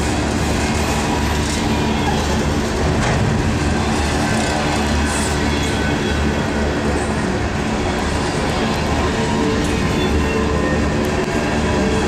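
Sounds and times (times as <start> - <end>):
freight train wheels rattling: 0.0 - 12.0.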